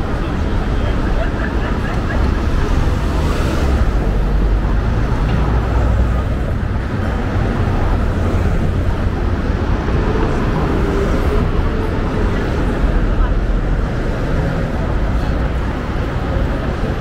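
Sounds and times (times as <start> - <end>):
road noise: 0.0 - 17.0
vehicles passing: 0.0 - 17.0.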